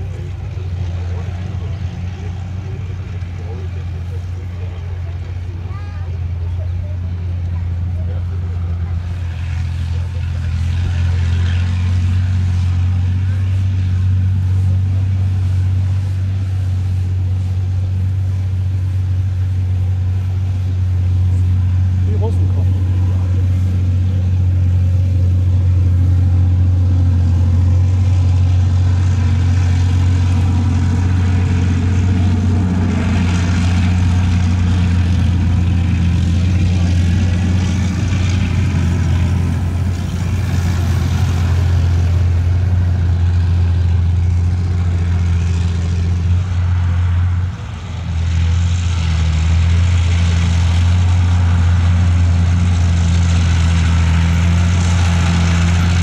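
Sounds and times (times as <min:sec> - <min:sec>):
tracked vehicle diesel engine running: 0:00.0 - 0:56.0.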